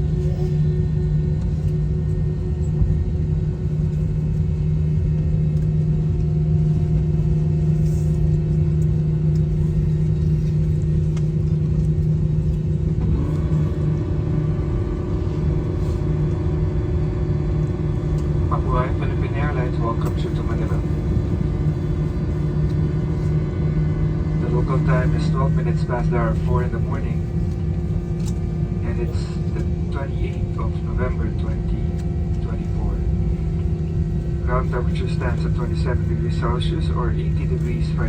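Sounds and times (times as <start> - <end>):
airplane cabin engine rumble: 0.0 - 38.0.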